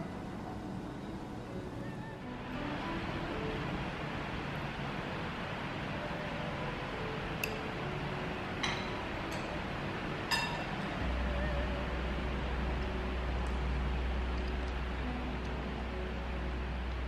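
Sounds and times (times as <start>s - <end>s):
low hum: 0.0s - 17.0s
steady hiss: 0.0s - 17.0s.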